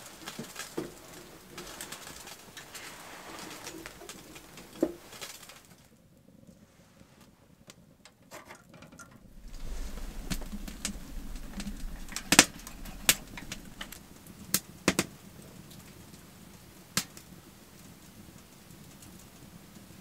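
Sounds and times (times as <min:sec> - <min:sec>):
fire pops and snaps: 0:00.0 - 0:05.8, 0:09.0 - 0:20.0
wood fire crackling: 0:00.0 - 0:06.6, 0:09.0 - 0:20.0
low rumble of fire: 0:00.0 - 0:06.8, 0:09.0 - 0:20.0.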